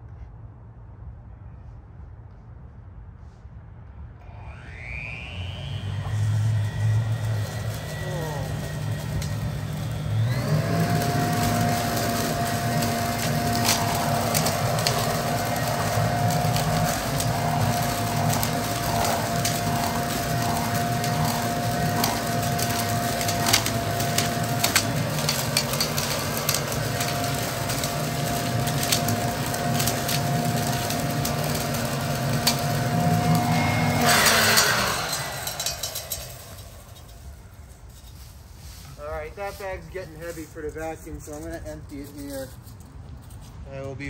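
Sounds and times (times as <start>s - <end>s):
leaf blower motor whining: 4.2s - 43.4s
leaves and sticks cracking: 5.8s - 43.5s.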